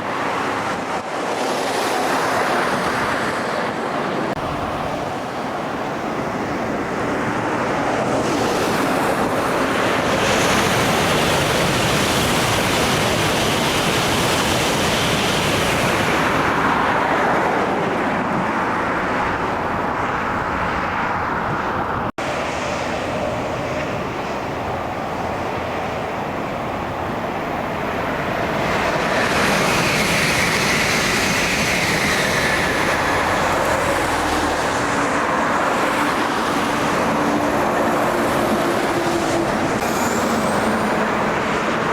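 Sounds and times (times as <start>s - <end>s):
high-speed train passing: 0.0s - 41.9s
steady rushing noise: 0.0s - 41.9s.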